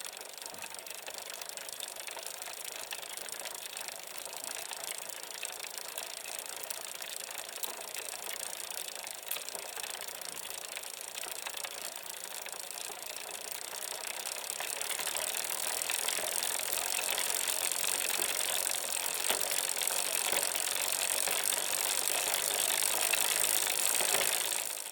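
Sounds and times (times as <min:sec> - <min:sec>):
bicycle whirring and ticking: 0:00.0 - 0:24.9.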